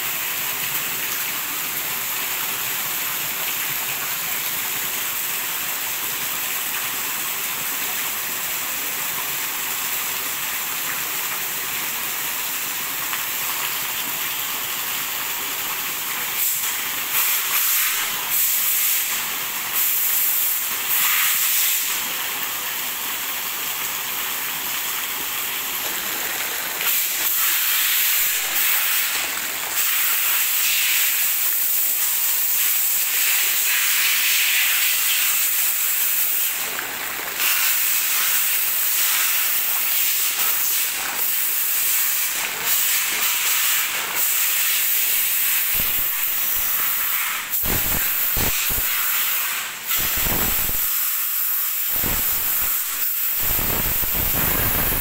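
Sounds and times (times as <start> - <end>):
heavy rain on metal roof: 0.0 - 55.0
water pouring into a bucket: 0.0 - 55.0.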